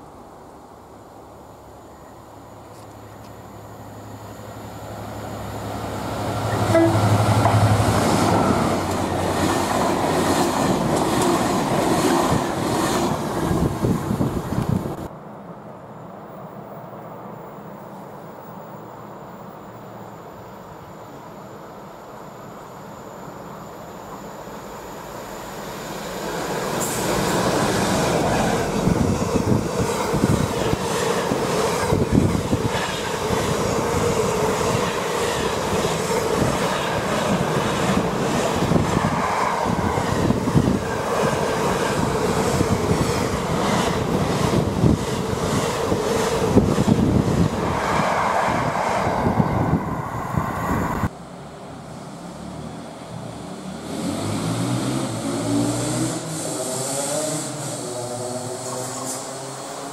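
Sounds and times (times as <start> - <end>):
distant train rumble: 0.0 - 54.0.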